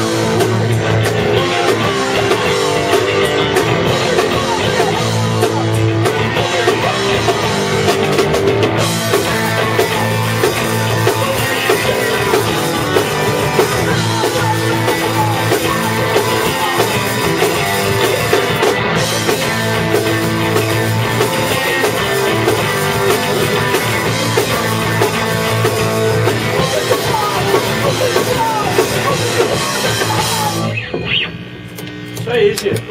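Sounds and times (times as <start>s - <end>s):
drum kit: 0.0s - 32.9s
punk rock band playing: 0.0s - 32.9s
person singing: 1.3s - 8.0s, 9.1s - 20.0s, 21.0s - 30.8s.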